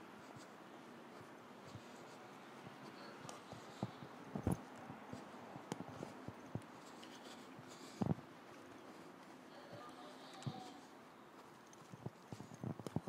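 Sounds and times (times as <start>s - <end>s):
faint clicks and knocks: 0.0s - 13.0s
low steady hiss: 0.0s - 13.0s.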